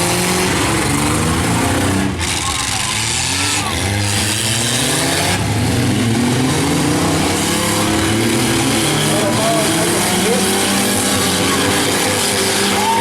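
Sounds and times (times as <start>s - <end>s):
truck engines revving: 0.0s - 13.0s.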